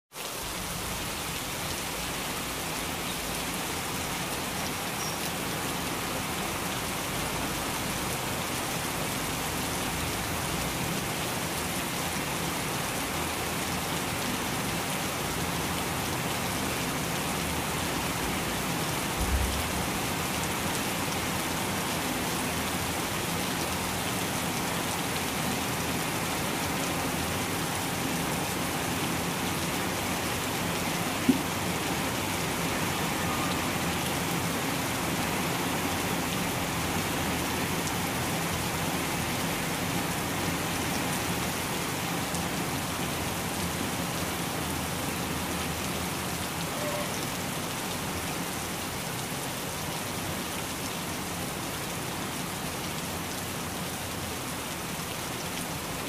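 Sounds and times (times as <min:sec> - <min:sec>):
heavy rain pouring: 0:00.1 - 0:56.0.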